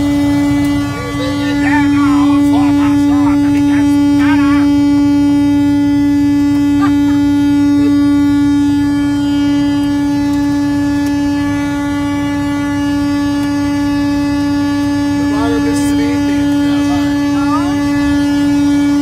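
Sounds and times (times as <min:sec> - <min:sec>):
truck air horn blaring: 0:00.0 - 0:19.0.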